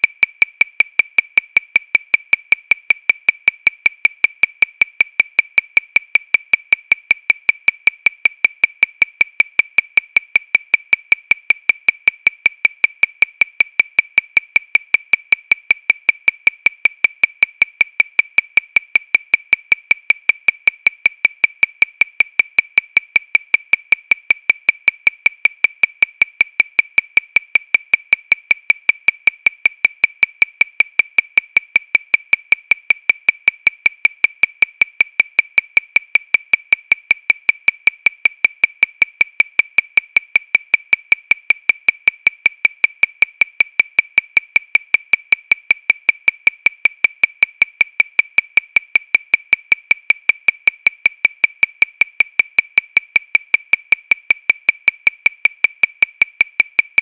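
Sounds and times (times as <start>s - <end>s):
metronome ticking: 0.0s - 57.0s.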